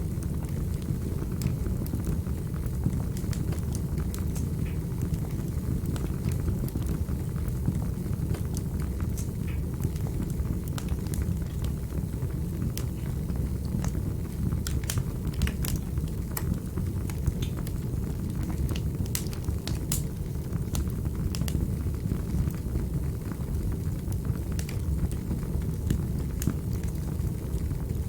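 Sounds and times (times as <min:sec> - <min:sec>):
low rumble of fire burning: 0:00.0 - 0:28.0
wood fire crackling and popping: 0:00.0 - 0:28.0.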